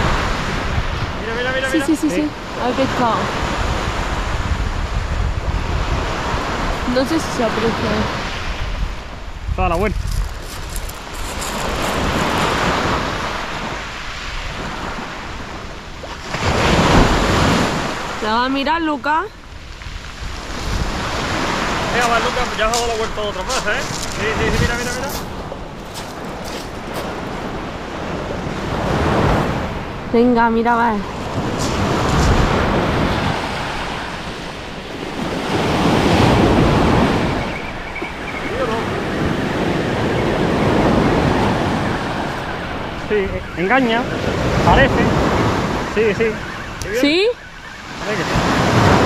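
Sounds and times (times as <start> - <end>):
surf breaking on beach: 0.0 - 49.0
wind rumbling on microphone: 0.0 - 49.0.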